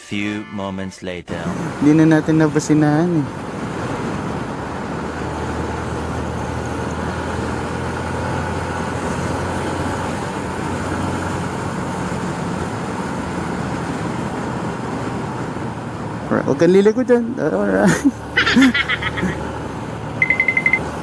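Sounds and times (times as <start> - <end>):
road noise: 1.2 - 21.0
motorcycle engine cruising: 1.4 - 21.0.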